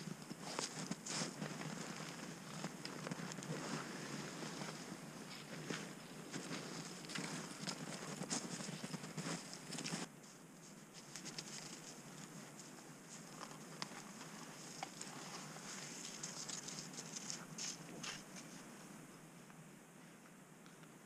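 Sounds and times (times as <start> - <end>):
footsteps crunching in snow: 0.0 - 18.7
faint scattered ticks and patter: 0.0 - 21.0
soft outdoor hiss: 0.0 - 21.0.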